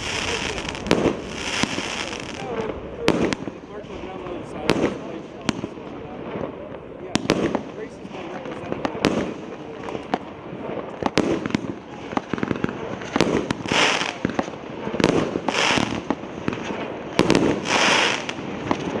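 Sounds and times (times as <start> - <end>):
long hissing crackles: 0.0 - 6.9, 7.6 - 19.0
small firework cracks: 0.0 - 19.0.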